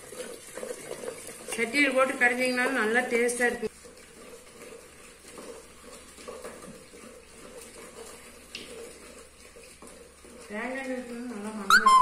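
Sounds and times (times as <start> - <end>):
wet churning in a clay pot: 0.0 - 12.0.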